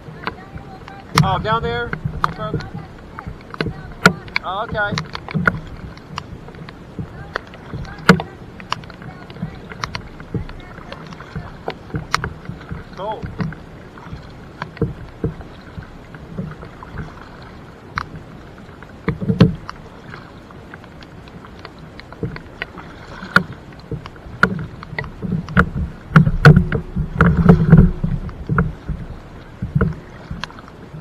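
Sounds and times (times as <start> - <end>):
paddle knocking against hull: 0.0 - 31.0
paddle splashing: 0.0 - 31.0.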